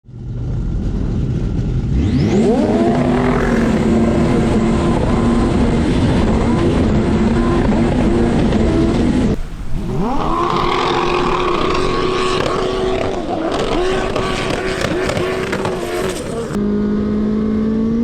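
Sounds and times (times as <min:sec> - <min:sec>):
jet ski engine revving: 0:01.5 - 0:16.6.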